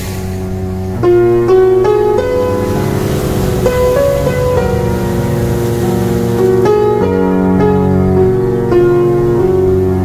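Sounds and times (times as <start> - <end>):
slow sustained instrumental chords: 0.0 - 10.0.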